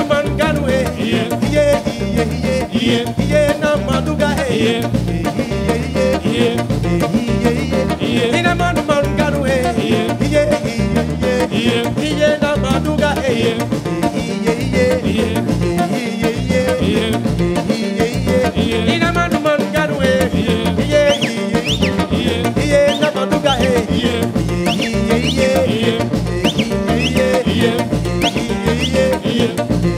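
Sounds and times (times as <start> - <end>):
live band playing upbeat music: 0.0 - 29.9
person singing: 0.0 - 29.9.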